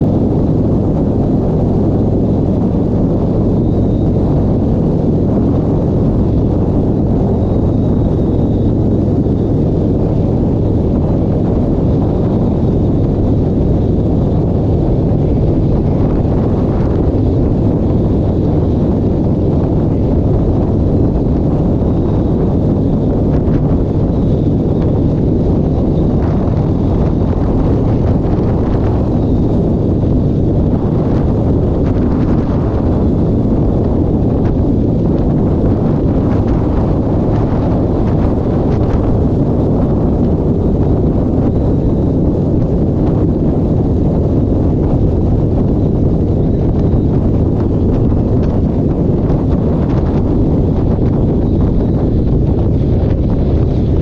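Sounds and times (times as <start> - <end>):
engine running steadily: 0.0 - 54.0
wind buffeting microphone: 0.0 - 54.0.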